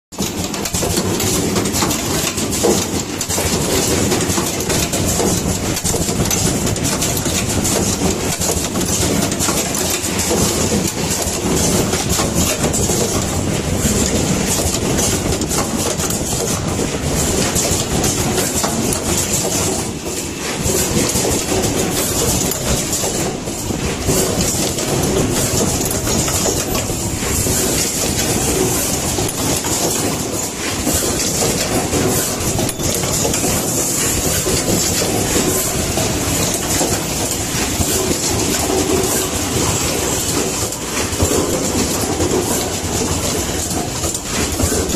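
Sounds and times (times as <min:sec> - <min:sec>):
crimping machine clattering: 0:00.2 - 0:44.9.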